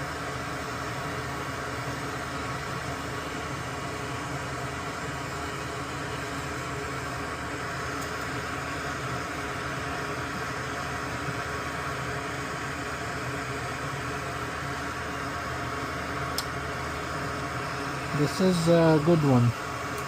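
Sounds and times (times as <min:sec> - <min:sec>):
machine fan hiss and hum: 0:00.0 - 0:20.0.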